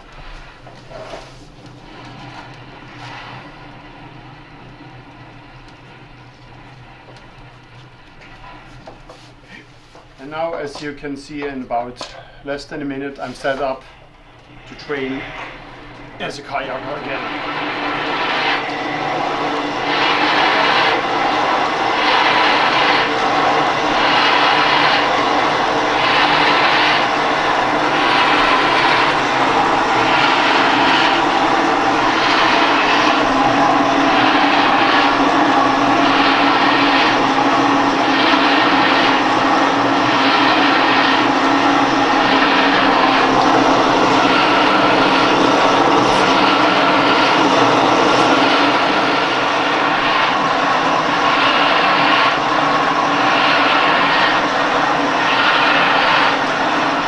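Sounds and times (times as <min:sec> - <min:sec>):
ergometer flywheel whirring: 0:00.0 - 0:12.1, 0:12.7 - 0:57.0.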